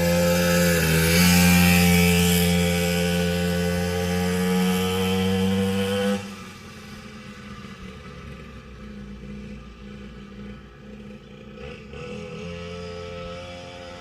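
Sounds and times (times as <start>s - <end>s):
small dirt bike engine running: 0.0s - 14.0s.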